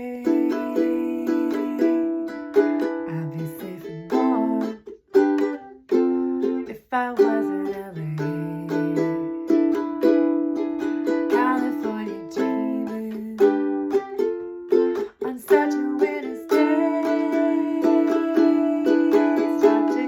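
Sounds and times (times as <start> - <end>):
ukulele strumming chords: 0.0 - 20.0.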